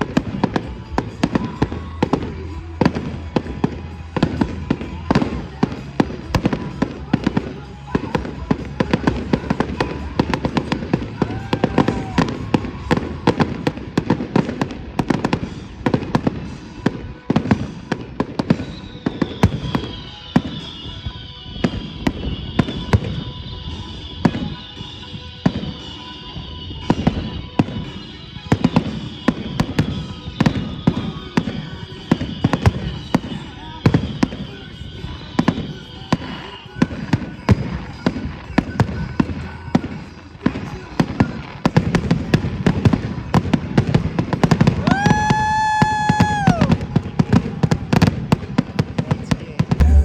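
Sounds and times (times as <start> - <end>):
fireworks booms and crackling bangs: 0.0 - 50.0.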